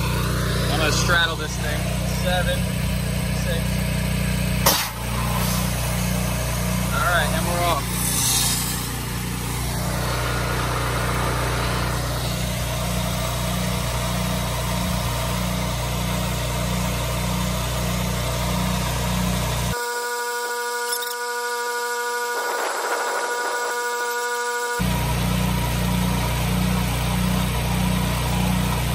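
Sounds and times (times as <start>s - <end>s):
pressure washer engine: 0.0s - 20.4s, 21.4s - 28.9s.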